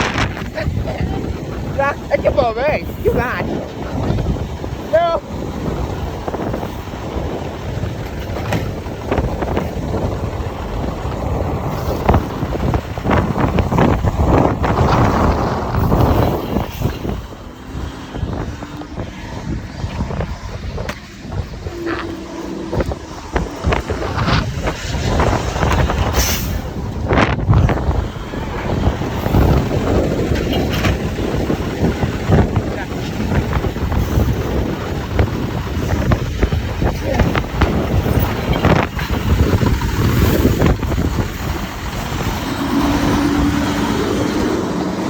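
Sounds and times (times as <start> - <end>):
garbage truck running: 0.0 - 45.0
wind buffeting microphone: 0.0 - 45.0.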